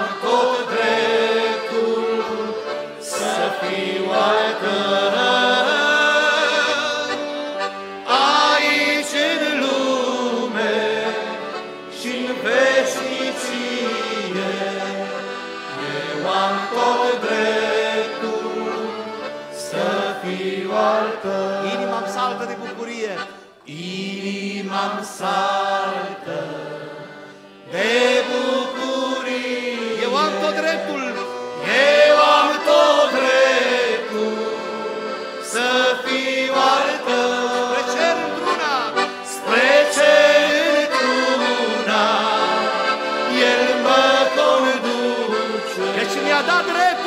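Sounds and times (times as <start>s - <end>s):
men singing a hymn in harmony: 0.0s - 22.7s, 23.6s - 47.0s
accordions playing: 0.0s - 47.0s.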